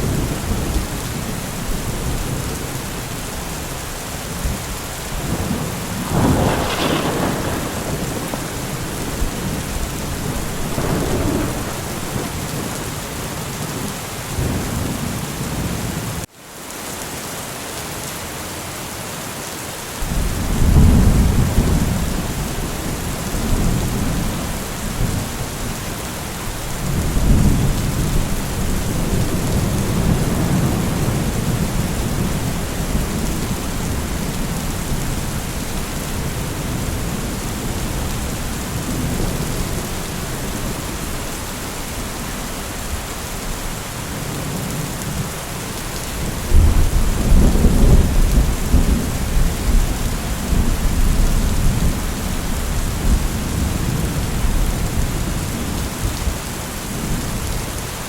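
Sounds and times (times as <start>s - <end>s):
heavy rain: 0.0s - 58.0s
thunder rumbling: 4.3s - 15.8s, 20.0s - 43.6s, 46.0s - 57.6s.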